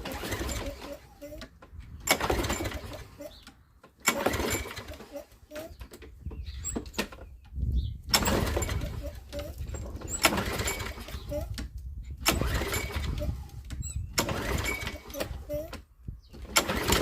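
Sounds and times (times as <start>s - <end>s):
lawn mower engine pull-started: 0.0s - 17.0s.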